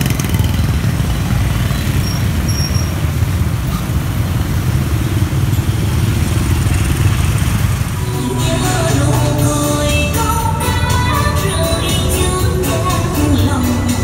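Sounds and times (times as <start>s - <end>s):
road noise: 0.0s - 14.0s
scooter engines rumbling: 0.0s - 14.0s.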